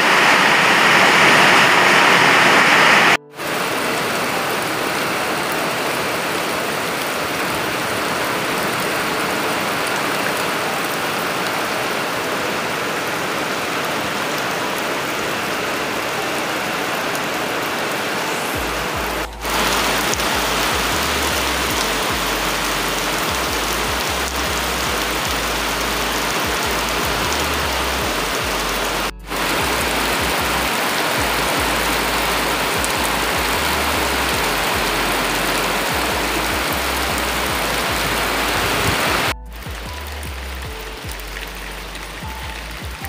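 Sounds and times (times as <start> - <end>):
heavy rain pouring: 0.0 - 43.0.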